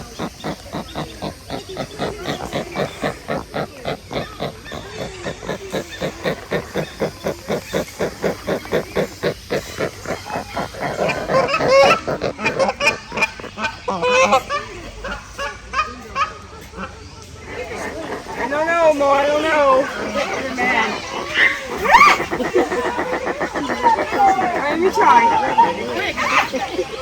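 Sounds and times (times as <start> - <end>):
birds honking: 0.0 - 15.6, 16.7 - 27.0
birds grunting calls: 0.0 - 27.0.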